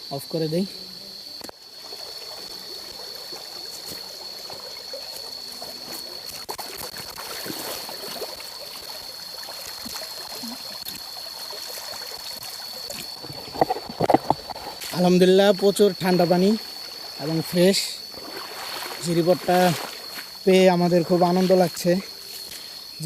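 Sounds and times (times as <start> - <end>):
high-pitched insect buzz: 0.0 - 23.0
stream trickling over stones: 0.2 - 23.0.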